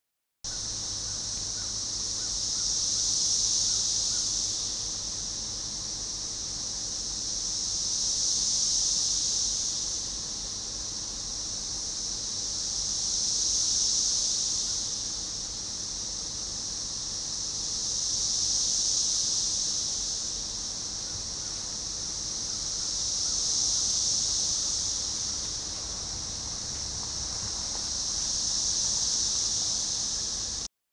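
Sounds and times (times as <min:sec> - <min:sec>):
cicadas buzzing in chorus: 0:00.5 - 0:30.7.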